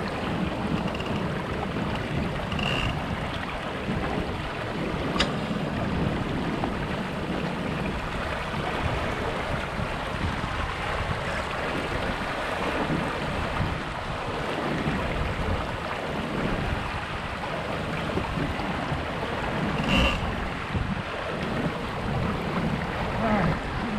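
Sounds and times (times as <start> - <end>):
water rushing along a hull: 0.0 - 23.9
wind buffeting microphone: 0.0 - 23.9.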